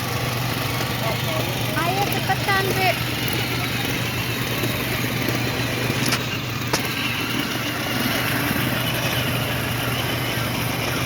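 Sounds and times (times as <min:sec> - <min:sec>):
low motor hum: 0:00.0 - 0:11.0
outdoor noise: 0:00.0 - 0:11.0.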